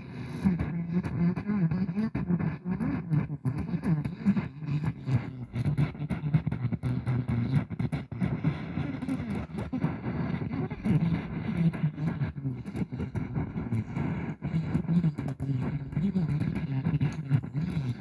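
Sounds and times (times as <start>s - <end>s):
muffled distorted radio music: 0.0s - 18.0s
radio static crackles: 0.0s - 18.0s.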